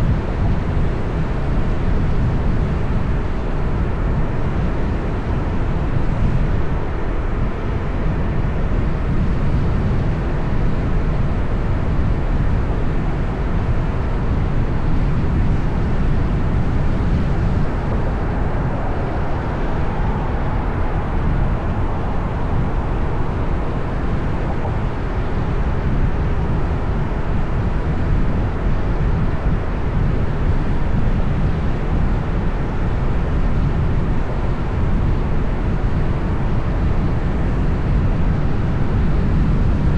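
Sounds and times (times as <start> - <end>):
road and traffic noise: 0.0 - 39.9.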